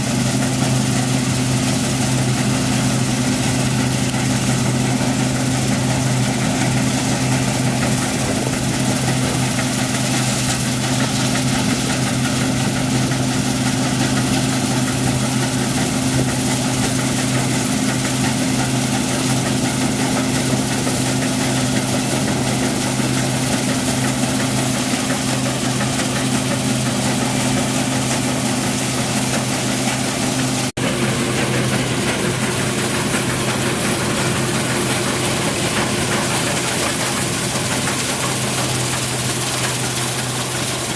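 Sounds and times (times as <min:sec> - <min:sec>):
combine harvester running: 0:00.0 - 0:40.9.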